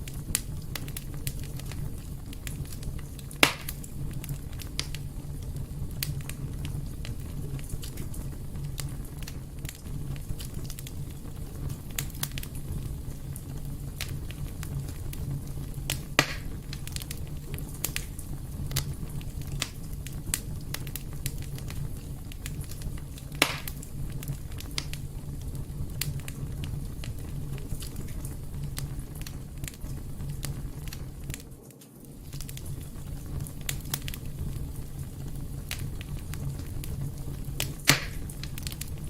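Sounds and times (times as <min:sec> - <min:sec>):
fireplace fire crackling: 0:00.0 - 0:39.0
sharp pops of fire: 0:00.0 - 0:39.0.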